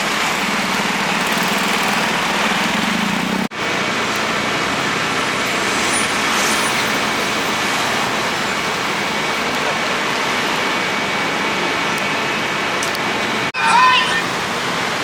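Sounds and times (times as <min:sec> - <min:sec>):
large vehicle engine hum: 0:00.0 - 0:15.0
road traffic noise: 0:00.0 - 0:15.0.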